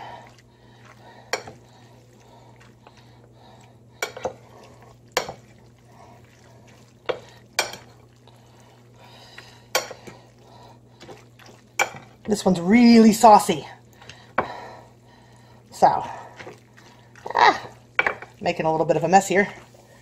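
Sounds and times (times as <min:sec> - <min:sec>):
pasta stirring: 0:00.0 - 0:20.0.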